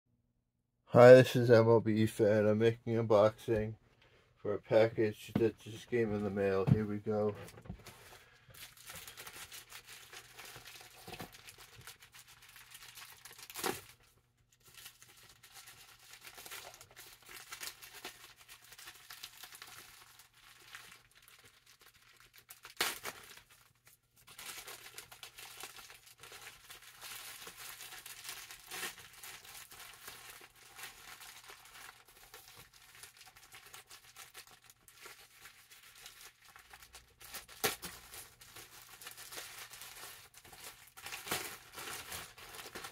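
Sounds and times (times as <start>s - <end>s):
packaging crinkling and tearing: 5.7s - 42.9s.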